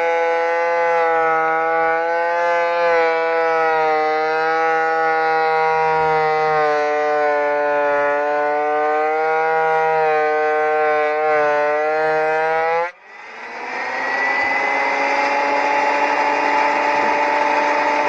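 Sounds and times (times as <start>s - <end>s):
planer high whine: 0.0s - 18.0s
rough noise with rising tone: 0.0s - 18.0s.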